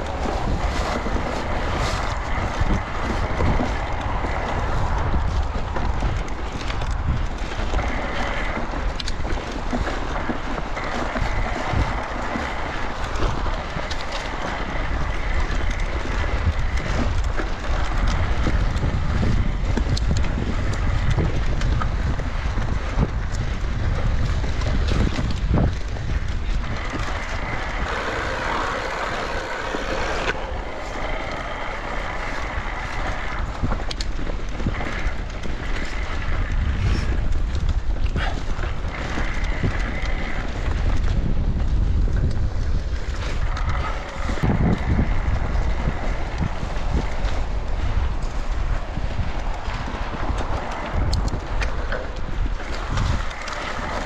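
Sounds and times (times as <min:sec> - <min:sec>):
tyre rumble: 0:00.0 - 0:54.0
wind on microphone: 0:00.0 - 0:54.0.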